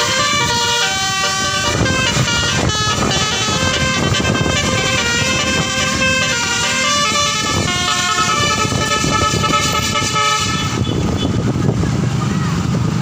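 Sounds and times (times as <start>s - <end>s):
bus musical horn playing a tune: 0.0s - 11.4s.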